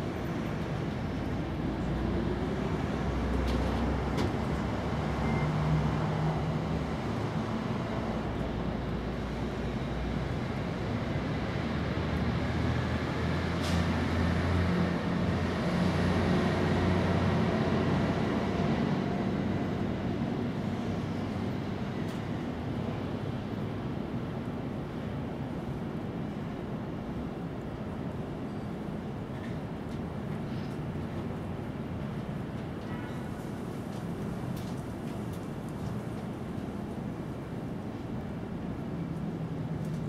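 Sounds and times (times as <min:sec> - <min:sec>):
low rumble of vehicle engines: 0:00.0 - 0:40.0.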